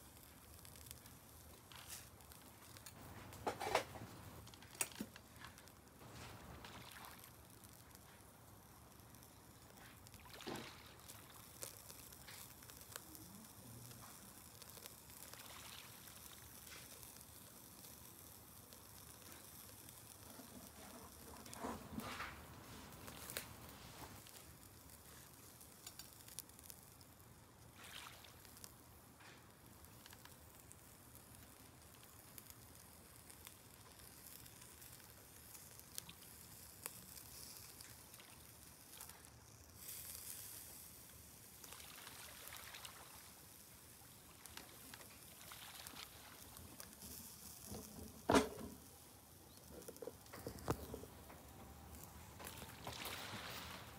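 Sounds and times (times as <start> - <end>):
charcoal grill crackling and hissing: 0.0 - 53.9.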